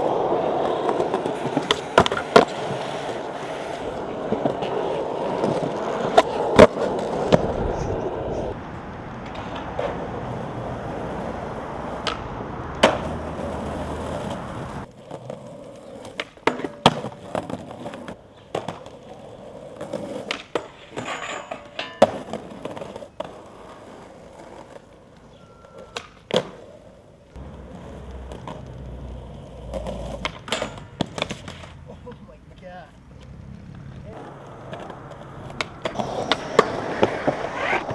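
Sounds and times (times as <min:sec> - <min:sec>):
skateboard deck clacking on ground: 0:00.0 - 0:08.0, 0:11.8 - 0:37.9
skateboard wheels rolling on concrete: 0:00.0 - 0:37.9.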